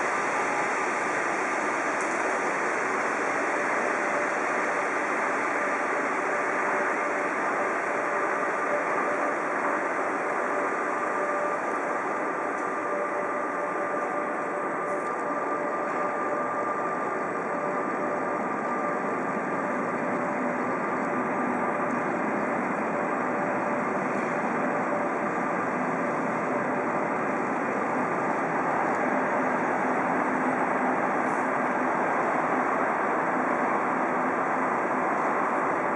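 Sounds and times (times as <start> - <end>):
faint whining tones: 0.0 - 35.9.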